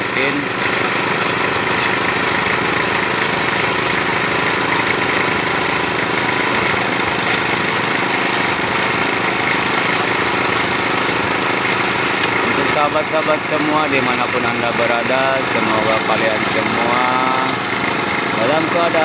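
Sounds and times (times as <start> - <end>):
drilling machine engine pulsing: 0.0 - 19.0.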